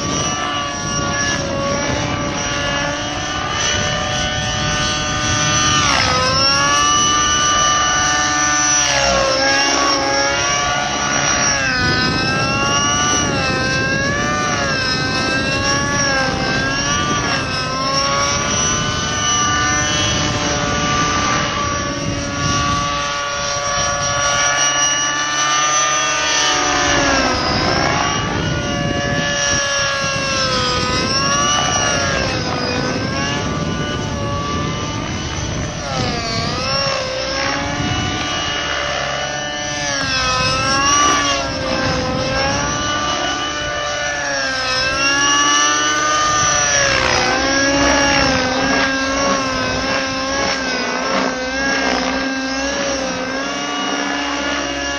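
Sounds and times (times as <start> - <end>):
model helicopter engine whining: 0.0 - 54.9.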